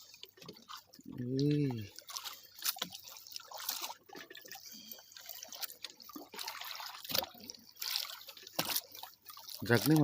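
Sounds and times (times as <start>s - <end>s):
water splashing and dripping: 0.0s - 10.0s
water trickling: 0.0s - 10.0s.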